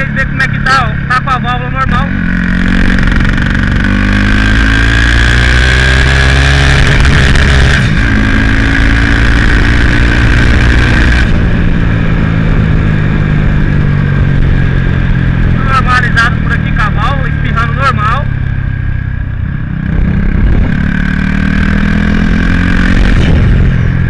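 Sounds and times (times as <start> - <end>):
single-cylinder engine revving: 0.0 - 19.1, 19.8 - 24.0.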